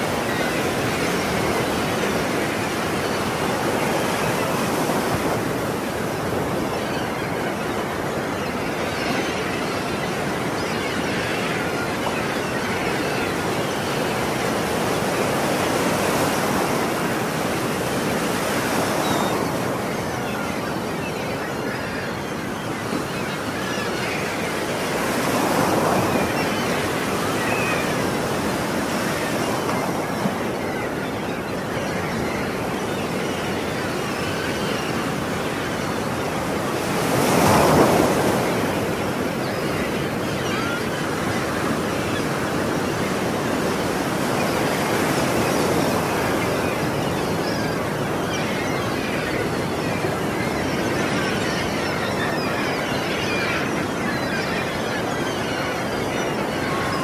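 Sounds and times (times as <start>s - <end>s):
ocean waves washing ashore: 0.0s - 57.0s
seagulls calling: 0.0s - 57.0s.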